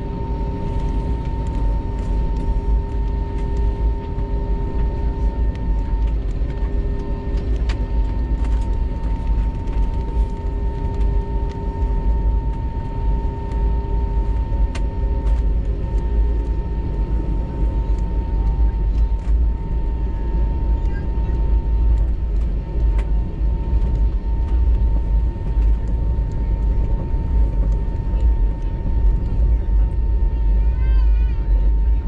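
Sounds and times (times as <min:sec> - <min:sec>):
jet engine whine and rumble: 0:00.0 - 0:32.0.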